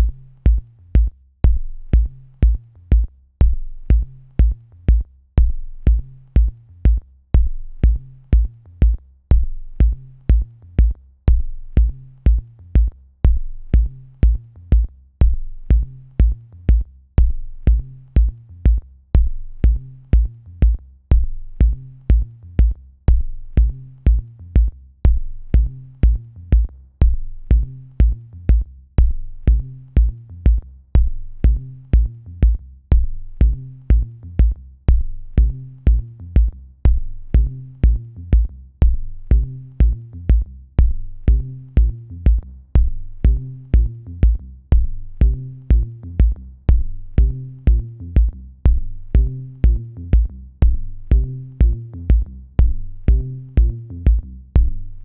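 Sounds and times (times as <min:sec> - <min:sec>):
electronic music with drum-machine beat: 0:00.0 - 0:55.0.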